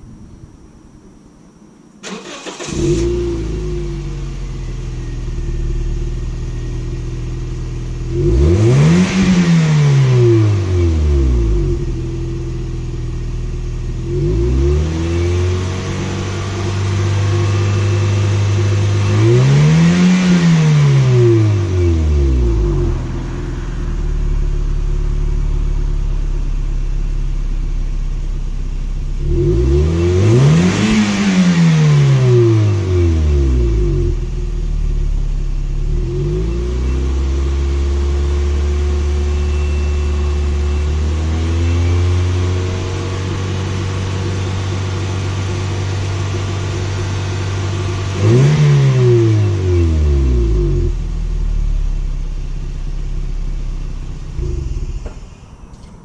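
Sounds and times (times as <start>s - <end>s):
car engine idling and revving: 2.0s - 56.0s.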